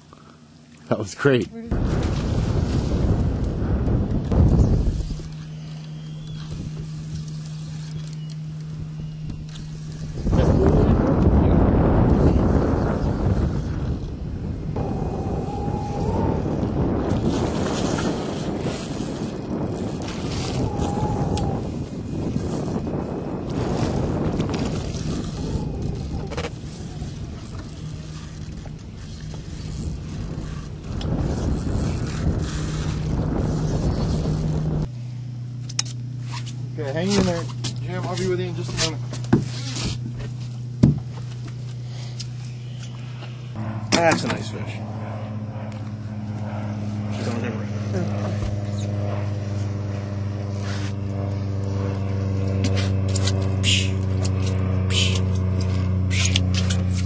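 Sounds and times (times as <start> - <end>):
outboard engine humming: 0.0 - 57.0
wind on microphone: 1.7 - 34.9, 43.4 - 57.0.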